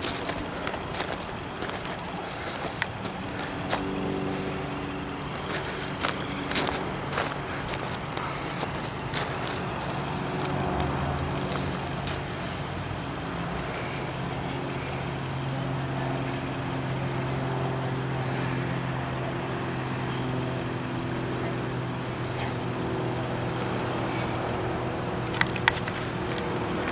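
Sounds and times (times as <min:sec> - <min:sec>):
vehicle engine droning: 0:00.0 - 0:26.9.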